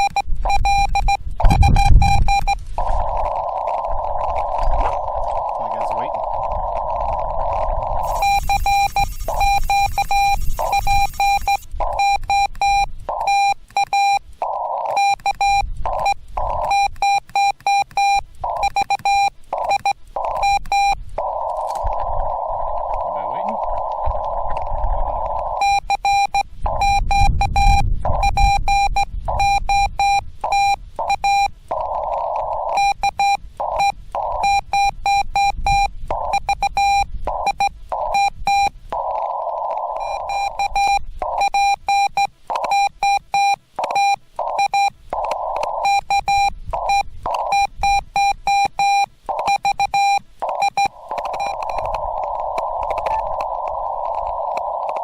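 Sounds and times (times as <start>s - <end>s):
morse code beeps: 0.0s - 4.6s, 7.3s - 21.9s, 25.2s - 55.0s
radio band hiss: 0.8s - 13.7s, 14.3s - 16.9s, 18.4s - 55.0s.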